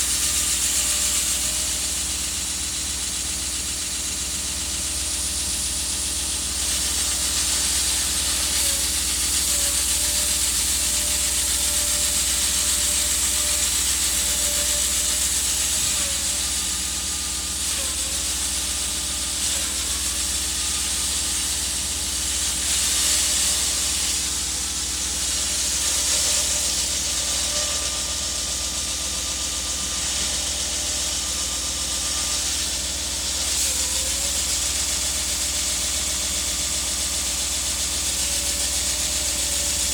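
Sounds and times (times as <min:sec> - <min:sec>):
concrete saw cutting: 0:00.0 - 0:39.9.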